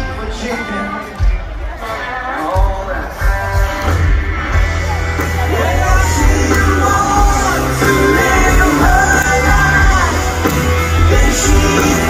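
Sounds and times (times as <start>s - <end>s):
lead singer: 0.0s - 12.0s
live rock band: 0.0s - 12.0s.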